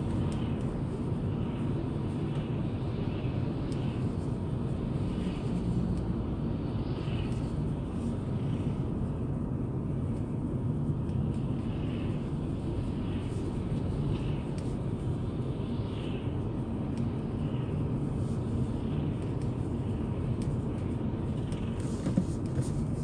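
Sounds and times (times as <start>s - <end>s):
car cabin road and engine drone: 0.0s - 23.0s.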